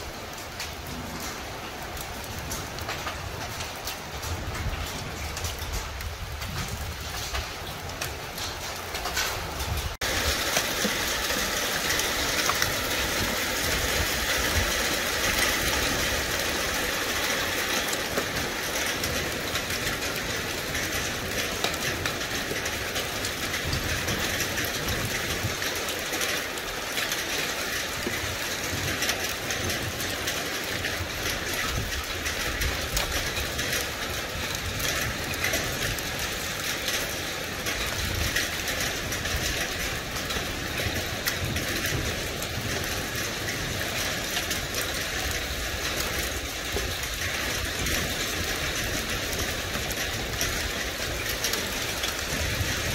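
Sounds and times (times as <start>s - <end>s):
hail and rain pelting: 0.0s - 52.9s.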